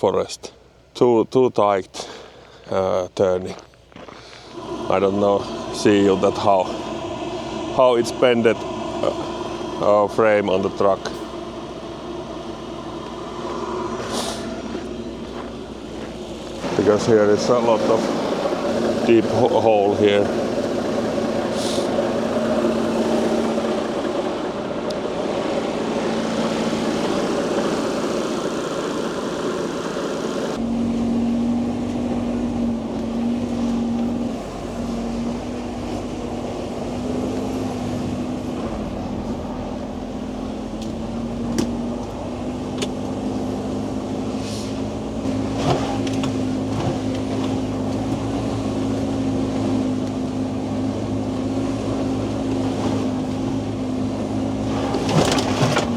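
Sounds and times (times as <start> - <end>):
truck diesel engine running: 0.0 - 55.9.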